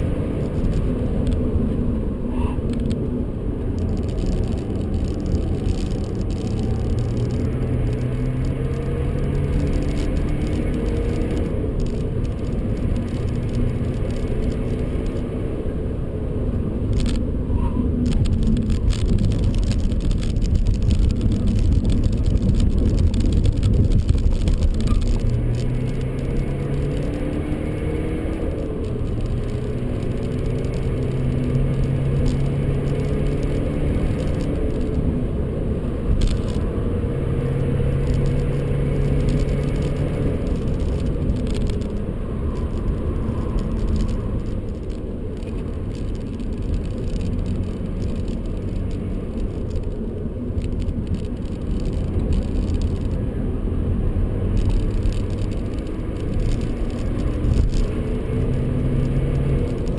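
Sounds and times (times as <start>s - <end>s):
road and tyre roar: 0.0s - 59.9s.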